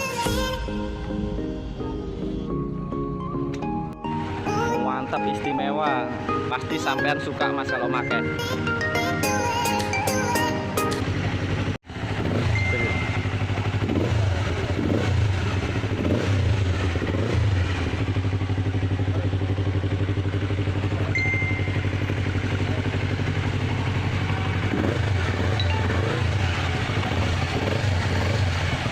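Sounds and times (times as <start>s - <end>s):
motorcycle engine idling and revving: 0.0s - 8.7s, 9.6s - 28.9s.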